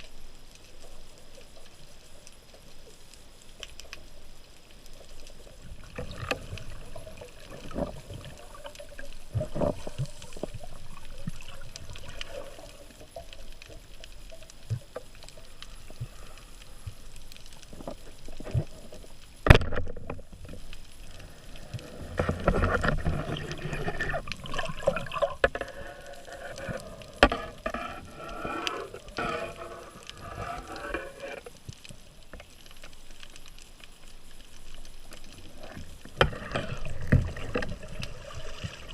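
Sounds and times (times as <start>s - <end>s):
small clicks and knocks: 0.0s - 29.3s, 30.0s - 38.1s
underwater water noise: 0.0s - 38.9s.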